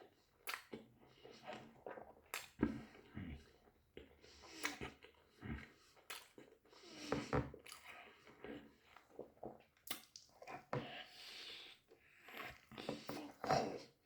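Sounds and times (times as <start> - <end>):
person chewing food: 0.4 - 14.0.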